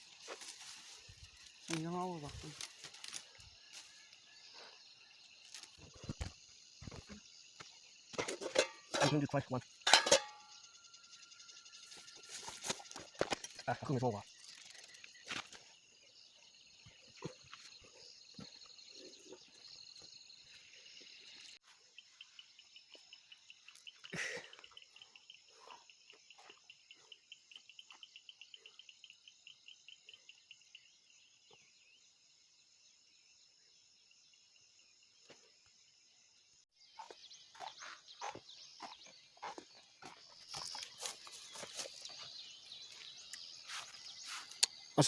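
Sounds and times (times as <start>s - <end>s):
crickets trilling: 0.0s - 45.0s
insect rapid pulsed chirps: 0.0s - 45.0s.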